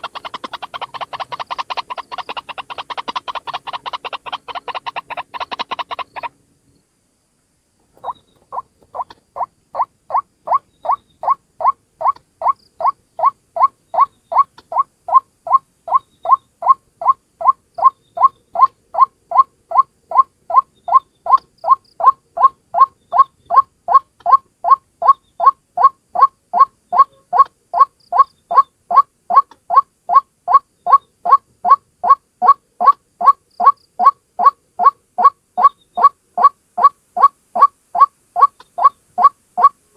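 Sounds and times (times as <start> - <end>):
waterhen calling: 0.0 - 6.4, 8.0 - 39.8.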